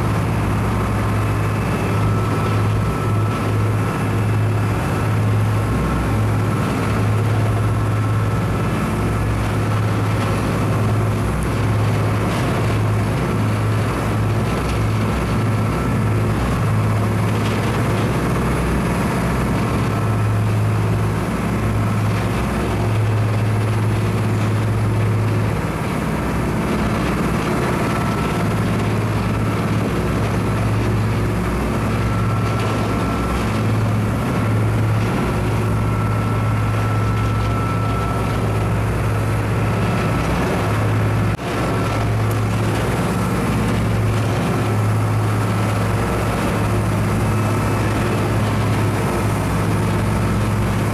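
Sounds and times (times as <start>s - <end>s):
boat engine drone: 0.0s - 50.9s
water noise: 0.0s - 50.9s
wind: 0.0s - 50.9s.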